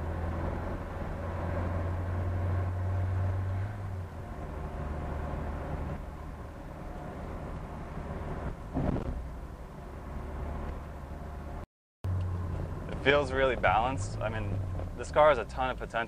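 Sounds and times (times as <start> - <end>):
car engine running: 0.0 - 16.0
road noise: 0.0 - 16.0.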